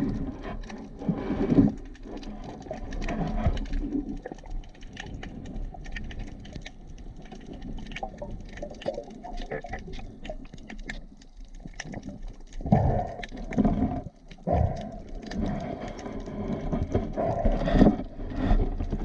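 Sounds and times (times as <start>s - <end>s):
underwater crackling clicks: 0.0s - 19.0s
underwater water noise: 0.0s - 19.0s.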